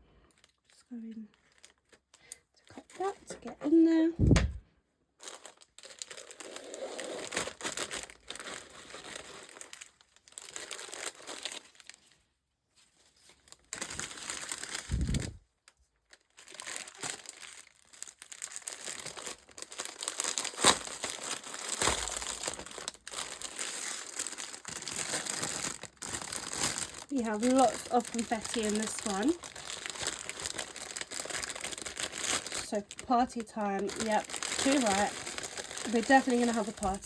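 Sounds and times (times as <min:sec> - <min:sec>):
packaging crinkling and tearing: 0:00.4 - 0:03.4, 0:05.2 - 0:12.3, 0:12.9 - 0:37.0.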